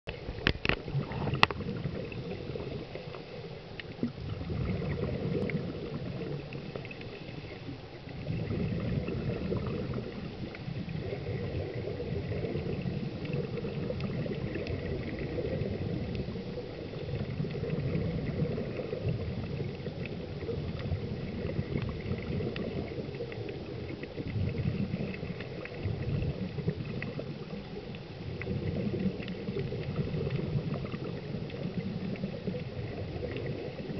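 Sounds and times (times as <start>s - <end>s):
gurgling exhaled bubbles: 0.1s - 33.9s
muffled underwater rumble: 0.1s - 33.9s.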